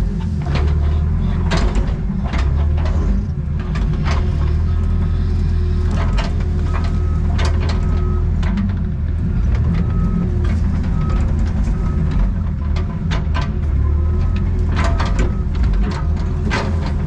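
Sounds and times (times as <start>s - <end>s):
excavator diesel engine droning: 0.0s - 17.0s
metal clanks and knocks: 0.1s - 5.1s, 5.8s - 8.9s, 9.5s - 17.0s.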